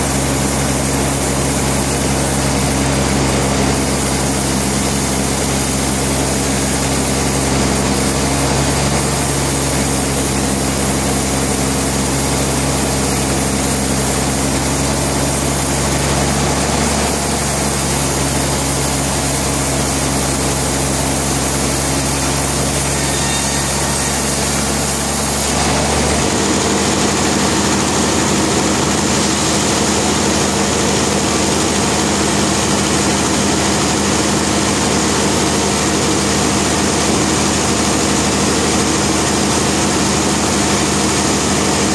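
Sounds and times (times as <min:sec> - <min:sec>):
sawmill machinery drone: 0:00.0 - 0:41.9.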